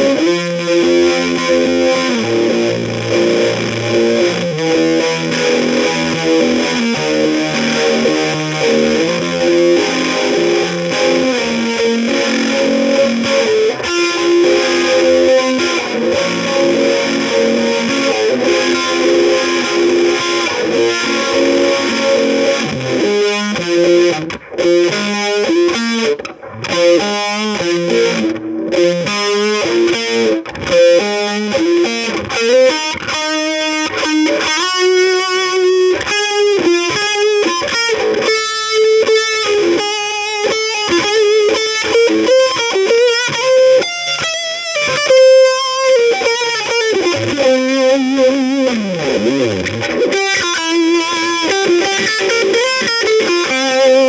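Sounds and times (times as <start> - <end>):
distorted electric guitar runs: 0.0 - 54.0.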